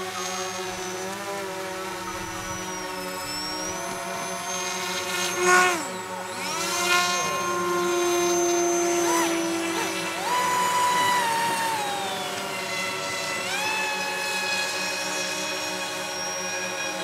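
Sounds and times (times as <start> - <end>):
model motor and propeller whine: 0.0 - 17.0.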